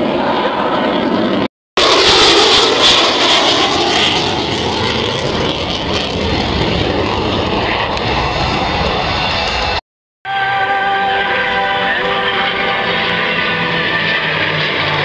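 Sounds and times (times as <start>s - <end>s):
jet flying past overhead: 0.0s - 9.8s, 11.9s - 15.0s.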